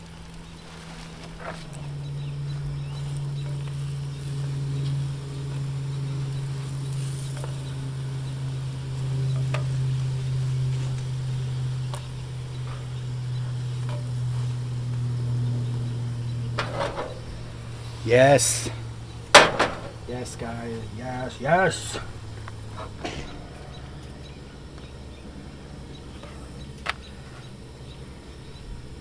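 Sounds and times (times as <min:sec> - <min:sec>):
low buzzing drone: 0:00.0 - 0:29.0.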